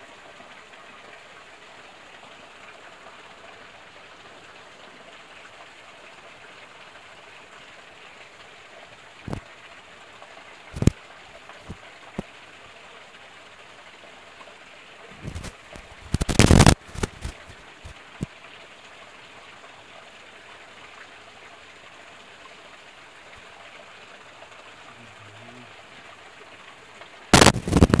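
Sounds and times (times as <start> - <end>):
water running in stream: 0.0 - 28.0.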